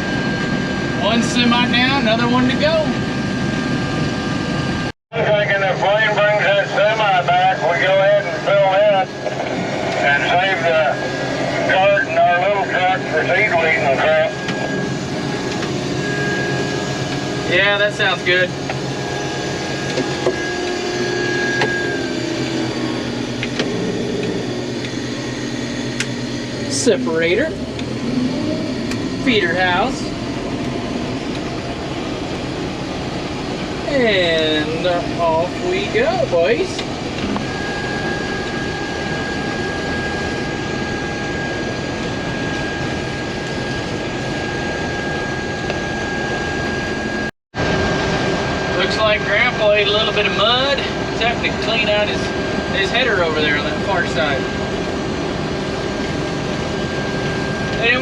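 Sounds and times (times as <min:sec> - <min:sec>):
combine harvester drone: 0:00.0 - 0:58.0
engine running steadily: 0:00.0 - 0:58.0
thin steady whine: 0:00.0 - 0:58.0.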